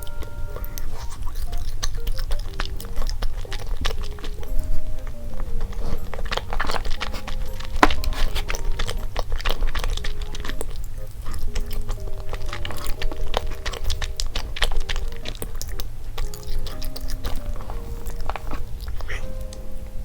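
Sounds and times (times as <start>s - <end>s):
close chewing with clicks and smacks: 0.0s - 20.0s
simple background melody: 0.0s - 20.0s.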